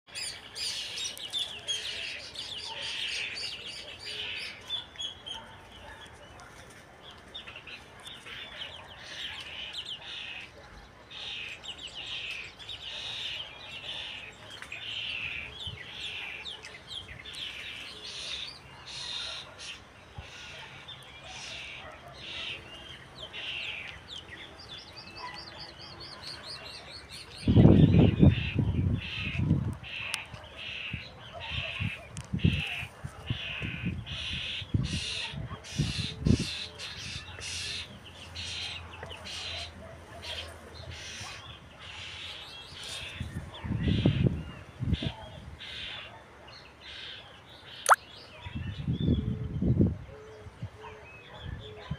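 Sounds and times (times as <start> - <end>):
small birds chirping: 0.1 - 49.3.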